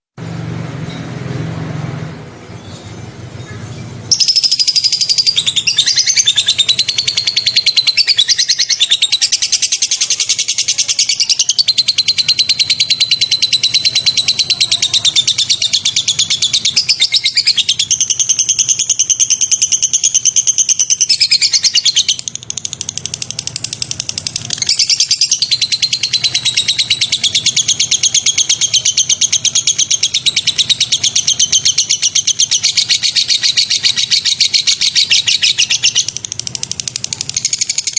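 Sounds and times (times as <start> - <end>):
bird singing rapid trills: 2.4 - 37.9.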